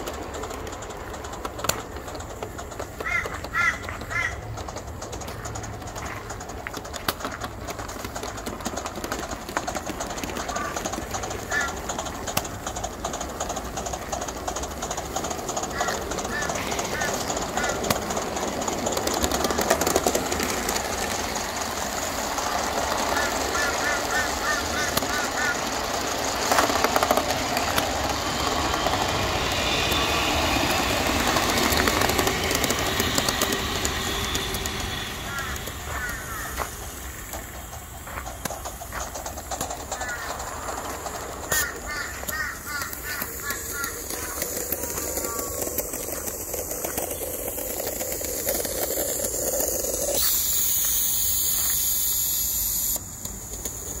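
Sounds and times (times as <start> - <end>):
sharp clicks of model train: 0.0 - 54.0
model steam locomotive hiss: 5.9 - 54.0.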